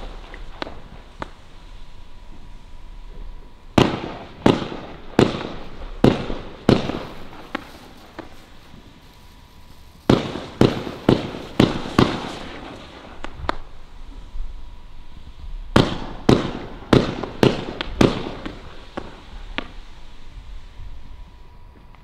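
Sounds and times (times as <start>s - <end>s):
firework reports: 0.0s - 21.6s.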